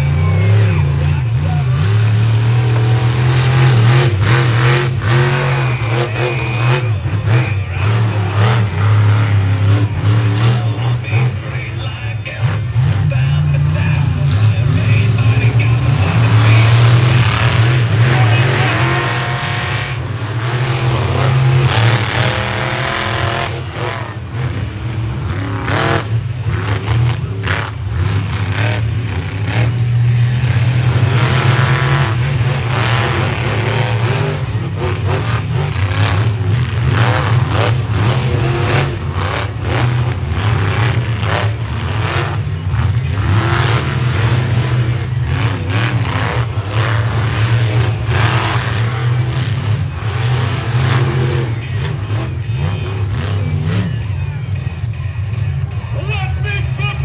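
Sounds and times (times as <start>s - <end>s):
monster truck engine revving: 0.0s - 57.0s.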